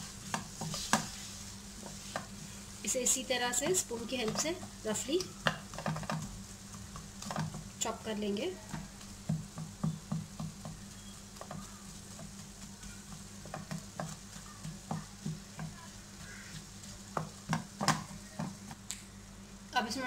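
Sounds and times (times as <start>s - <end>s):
spatula tapping and scraping pan: 0.0s - 1.2s, 1.8s - 2.4s, 3.6s - 8.0s, 8.6s - 18.8s.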